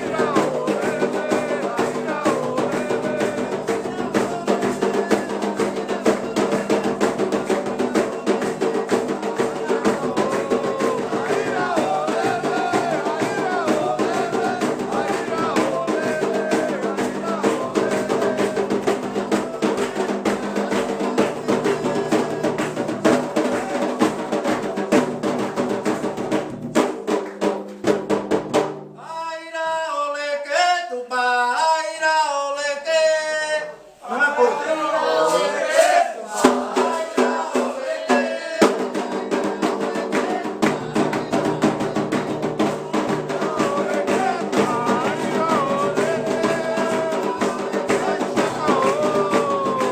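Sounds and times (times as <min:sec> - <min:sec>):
single voice singing melody: 0:00.0 - 0:24.7, 0:29.0 - 0:49.9
voices chanting together: 0:00.0 - 0:26.4, 0:29.0 - 0:49.9
dense drum strokes: 0:00.0 - 0:27.1, 0:36.4 - 0:49.9.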